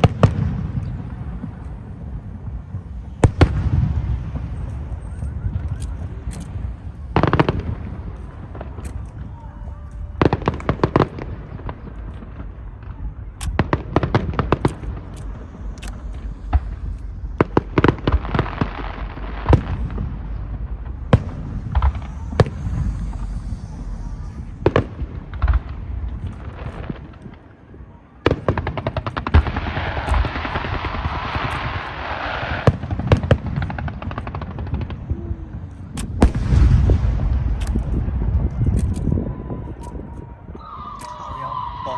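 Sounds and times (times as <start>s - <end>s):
heavy booms: 0.0s - 40.6s
low rumble: 0.0s - 40.9s
fireworks bangs: 0.0s - 41.9s
hissing crackle: 0.0s - 41.9s.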